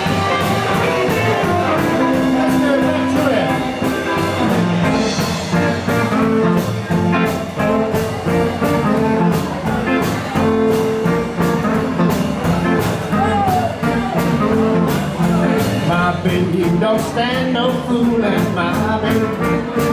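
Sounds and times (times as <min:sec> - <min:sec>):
blues band playing: 0:00.0 - 0:19.9.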